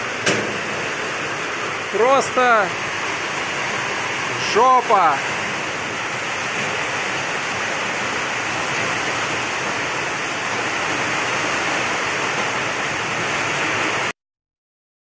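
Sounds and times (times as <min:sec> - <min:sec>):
heavy rain pouring: 0:00.0 - 0:14.1.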